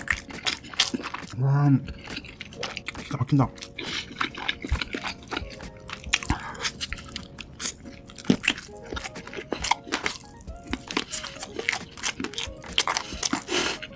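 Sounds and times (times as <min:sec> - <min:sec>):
crunchy chewing of food: 0:00.0 - 0:13.9.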